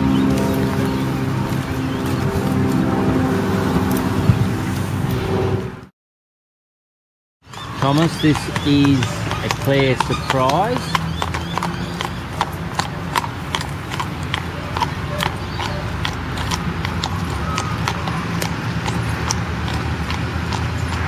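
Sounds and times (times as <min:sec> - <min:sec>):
horse hooves clip-clopping: 0:00.0 - 0:05.2, 0:07.5 - 0:21.0.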